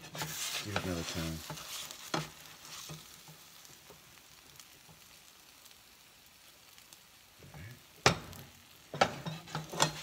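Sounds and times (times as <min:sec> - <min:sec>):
omelet sizzling in frying pan: 0:00.0 - 0:10.0.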